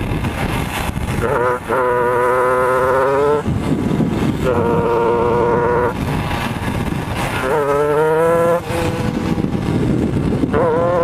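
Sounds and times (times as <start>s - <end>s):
two-stroke kart engine running hard: 0.0s - 11.0s.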